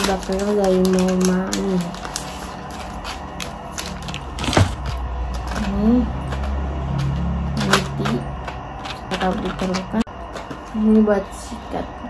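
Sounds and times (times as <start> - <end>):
packaging crinkling and rustling: 0.0 - 10.9.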